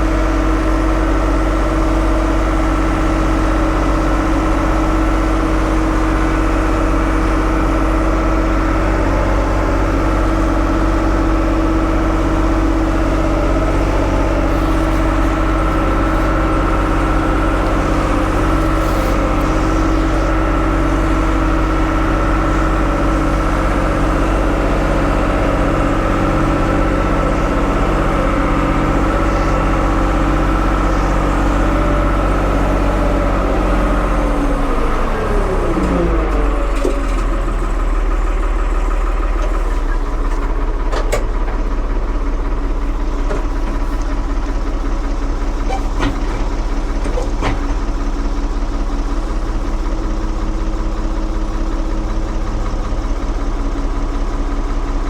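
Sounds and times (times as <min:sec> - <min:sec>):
backhoe engine running steadily: 0:00.0 - 0:55.0.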